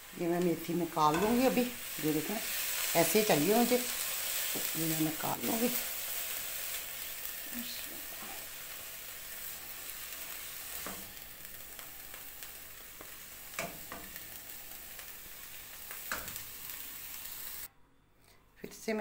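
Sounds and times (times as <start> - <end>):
leaves sizzling in oil: 0.0 - 17.7.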